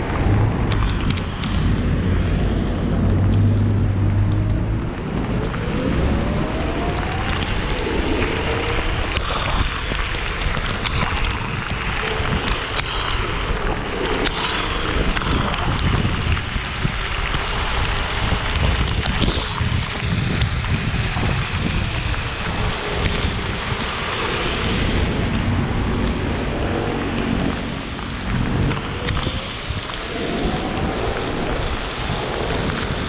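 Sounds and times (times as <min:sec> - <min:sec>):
tyres hissing on wet road: 0:00.0 - 0:33.0
wind buffeting microphone: 0:00.0 - 0:33.0.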